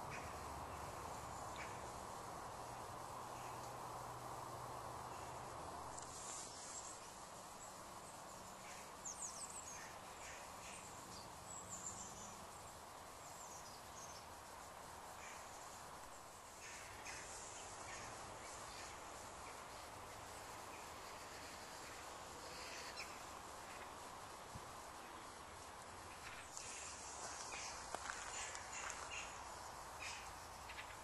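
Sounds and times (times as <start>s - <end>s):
soft steady hiss: 0.0s - 31.0s.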